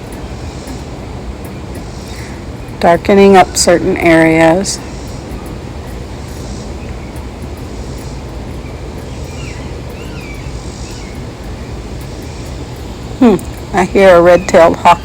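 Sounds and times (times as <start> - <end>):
faint wavering bird calls: 0.0 - 15.0
outdoor background rumble and hiss: 0.0 - 15.0.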